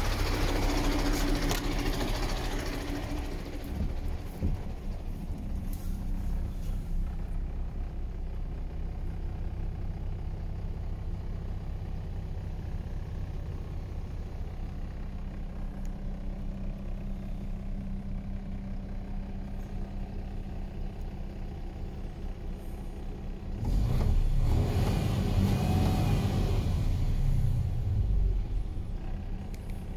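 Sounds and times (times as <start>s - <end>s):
diesel truck engine idling: 0.0s - 24.6s, 25.2s - 29.9s.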